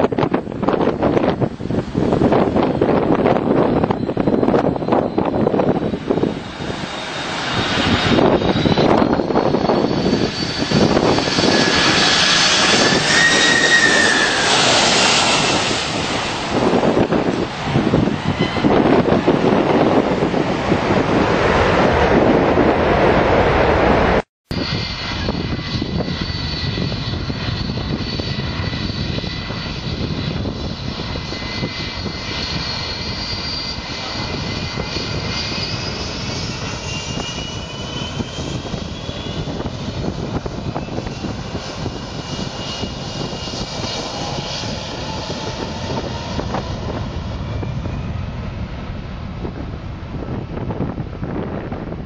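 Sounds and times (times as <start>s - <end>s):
jet engines rushing and whining: 0.0s - 52.0s
wind buffeting microphone: 0.0s - 52.0s.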